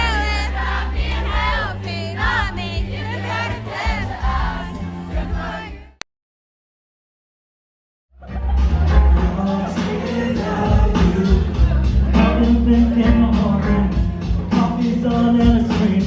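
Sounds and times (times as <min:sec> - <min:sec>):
live pop music with singing: 0:00.0 - 0:05.9, 0:08.2 - 0:16.0.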